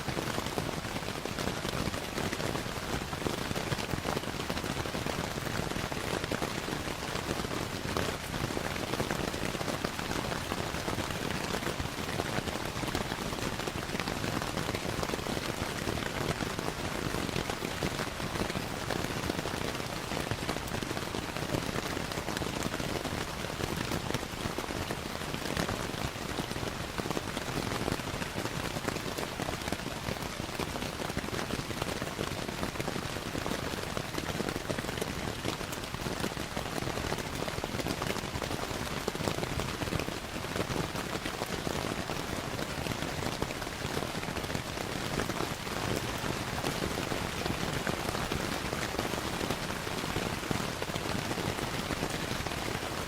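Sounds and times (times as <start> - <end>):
steady rainfall: 0.0 - 53.0.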